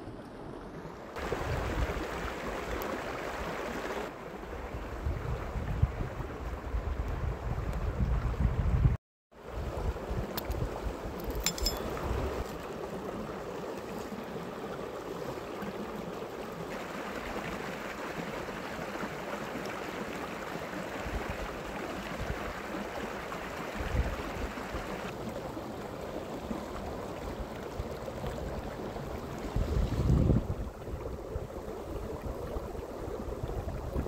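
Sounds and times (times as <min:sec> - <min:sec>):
stream running over rocks: 0:00.0 - 0:07.6, 0:09.4 - 0:34.0.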